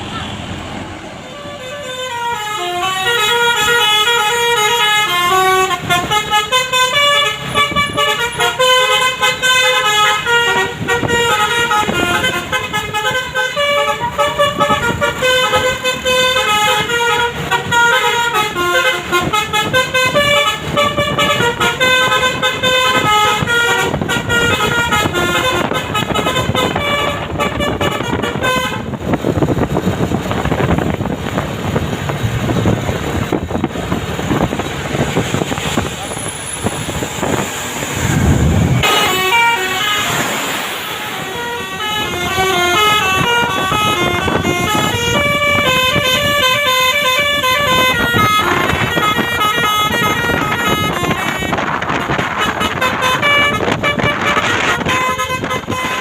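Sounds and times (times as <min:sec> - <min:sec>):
bus horn playing melody: 0:01.2 - 0:32.0, 0:33.1 - 0:56.0.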